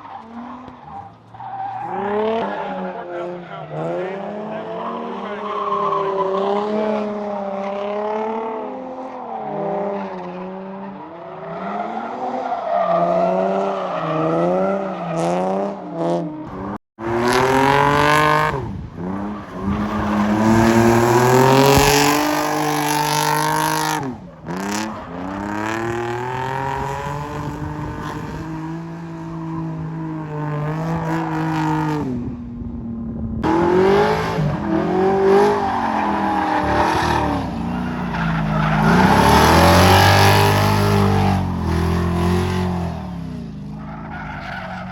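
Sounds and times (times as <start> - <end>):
tire squeal: 0.0 - 7.3, 9.0 - 15.9, 17.1 - 31.4, 34.0 - 44.9
race car engines revving: 0.0 - 44.9.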